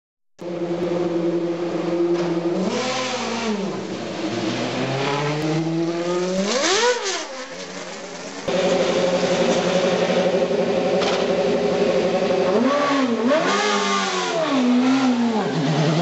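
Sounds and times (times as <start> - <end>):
racing car engine idling and revving: 0.4 - 16.0.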